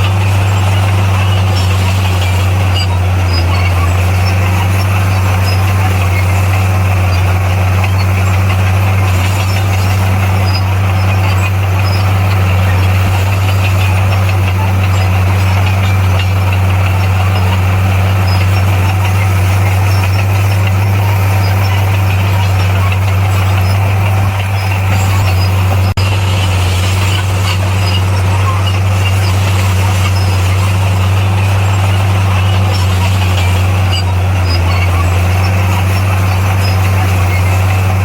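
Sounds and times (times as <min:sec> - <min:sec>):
bulldozer diesel engine droning: 0:00.0 - 0:38.0.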